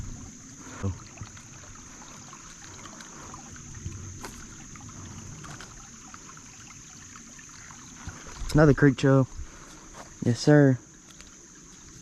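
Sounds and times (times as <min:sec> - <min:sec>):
creek water trickling: 0:00.0 - 0:12.0
high-pitched hiss: 0:00.0 - 0:12.0.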